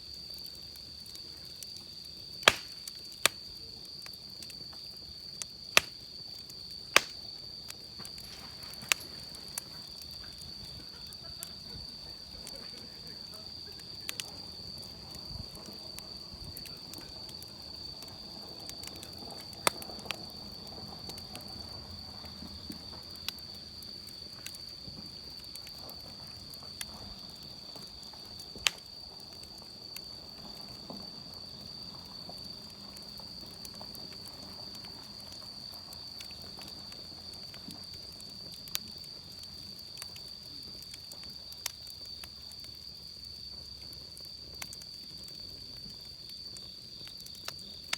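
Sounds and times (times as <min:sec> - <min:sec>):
campfire crackling and popping: 0:00.0 - 0:47.9
insects trilling: 0:00.0 - 0:47.9.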